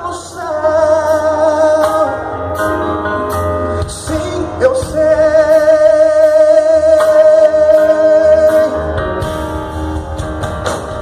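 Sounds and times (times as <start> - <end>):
guitar accompaniment: 0.0 - 11.0.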